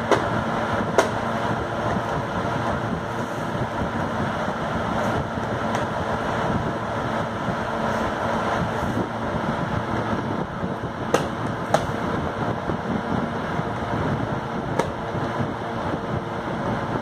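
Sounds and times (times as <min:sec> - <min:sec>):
steady whooshing background noise: 0:00.0 - 0:17.0.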